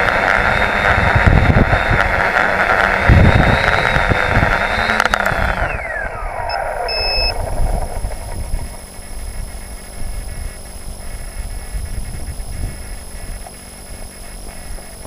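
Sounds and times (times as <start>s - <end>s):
drone motors whining: 0.0s - 15.0s
wind thumps on microphone: 0.8s - 2.3s, 3.0s - 5.9s, 7.3s - 15.0s.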